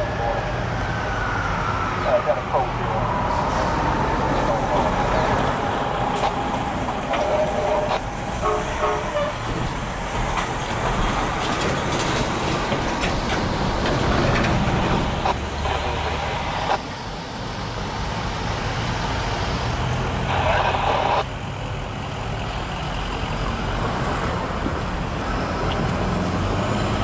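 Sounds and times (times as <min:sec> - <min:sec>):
diesel locomotive engine rumbling: 0:00.0 - 0:27.0.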